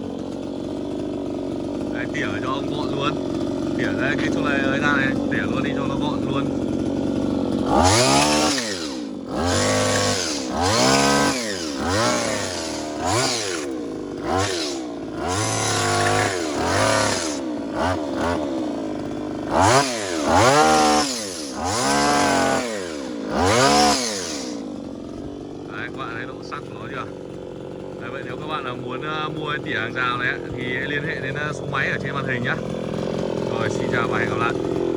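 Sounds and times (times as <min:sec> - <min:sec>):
blades trimming hedge: 0:00.0 - 0:34.9
hedge trimmer engine revving: 0:00.0 - 0:34.9.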